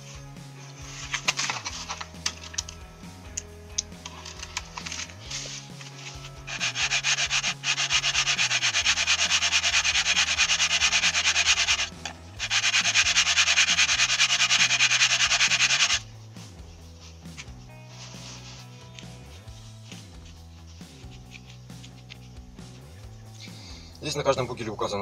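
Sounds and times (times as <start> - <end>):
metal cap rubbing on abrasive paper: 0.7 - 2.7, 3.3 - 22.4.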